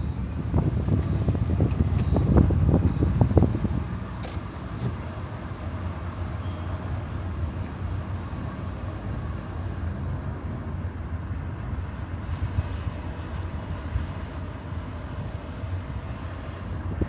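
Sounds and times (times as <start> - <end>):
car engine rumble: 0.0 - 17.0
tyre-on-road noise: 0.0 - 17.0.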